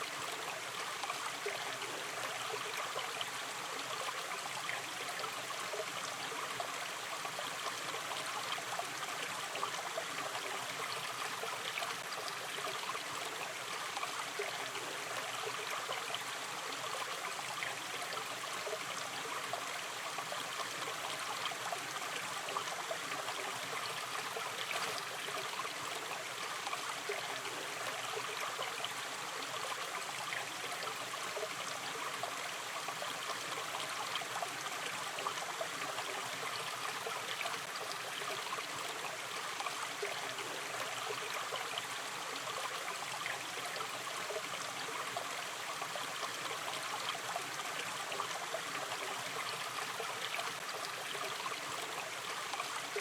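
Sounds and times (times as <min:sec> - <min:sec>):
stream babbling over stones: 0:00.0 - 0:53.0.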